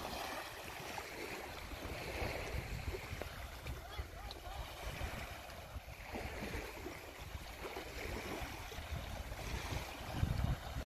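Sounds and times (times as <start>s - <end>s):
small waves lapping on sand: 0.0s - 10.8s
wind rumbling on microphone: 0.0s - 10.9s.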